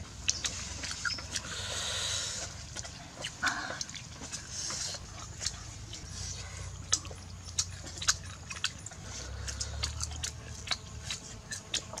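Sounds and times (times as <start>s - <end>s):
chewing: 0.0s - 12.0s
lip smacks: 0.0s - 12.0s
mouth clicks: 0.2s - 12.0s.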